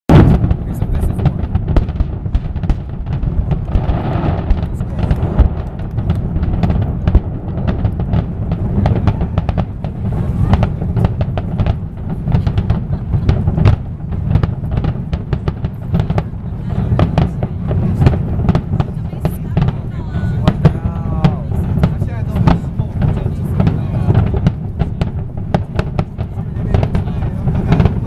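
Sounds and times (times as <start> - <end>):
fireworks booms and cracks: 0.1 - 28.0
steady low rumble: 0.1 - 28.0.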